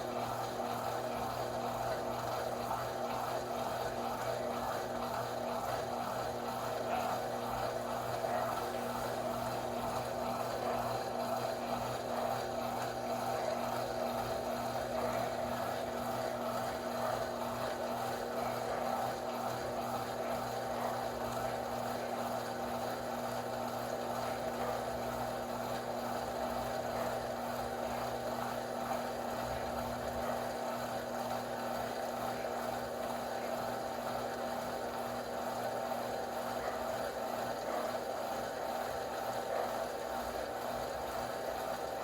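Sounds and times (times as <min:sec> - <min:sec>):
washing machine humming: 0:00.0 - 0:42.0.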